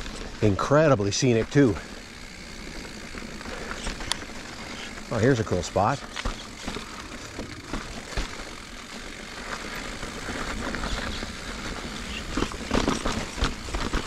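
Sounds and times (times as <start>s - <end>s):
bike clicks and rattles: 0.0s - 14.0s
bike tyres rumbling on trail: 0.0s - 14.0s
wind: 0.0s - 14.0s.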